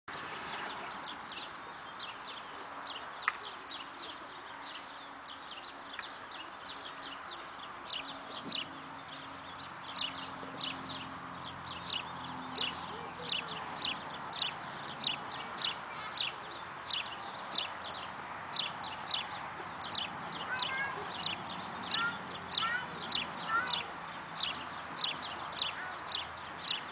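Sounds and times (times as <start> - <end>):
steady outdoor hiss: 0.1 - 26.9.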